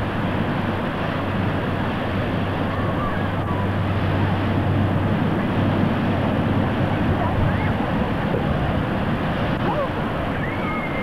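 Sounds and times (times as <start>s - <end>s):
small waves breaking on shore: 0.0s - 11.0s
wind rumble on microphone: 0.0s - 11.0s.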